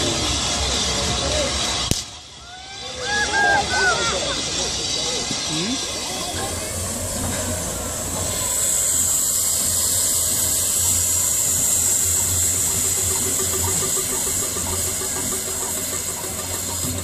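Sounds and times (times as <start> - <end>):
loud high steam hiss: 0.0 - 17.0
low locomotive rumble: 0.0 - 17.0.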